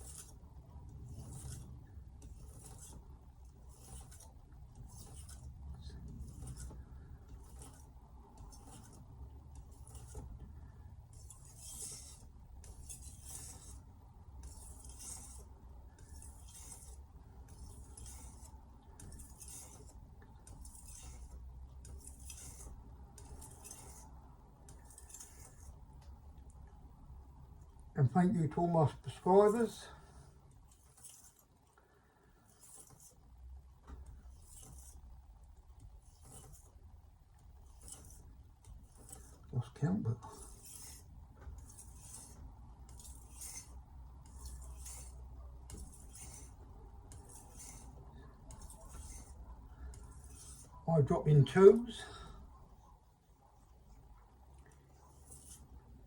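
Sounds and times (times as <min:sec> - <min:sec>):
knife stropping strokes: 0:00.0 - 0:26.6, 0:28.4 - 0:56.0.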